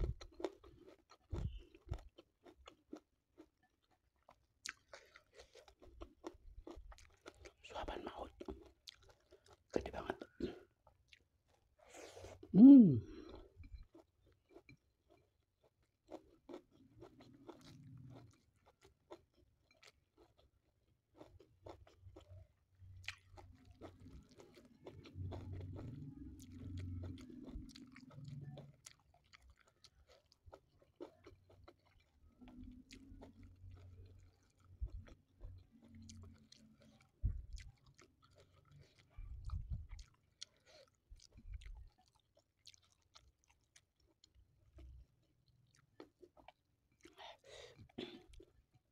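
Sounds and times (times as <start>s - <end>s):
person chewing with soft crunching: 0.0s - 48.9s.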